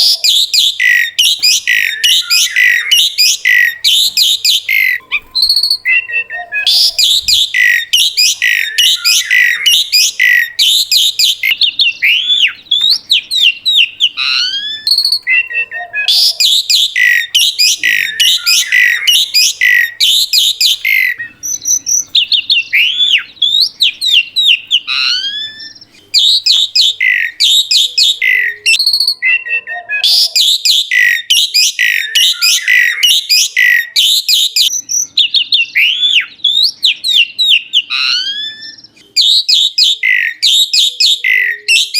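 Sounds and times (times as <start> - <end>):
starling singing whistles and squawks: 0.0 - 41.9.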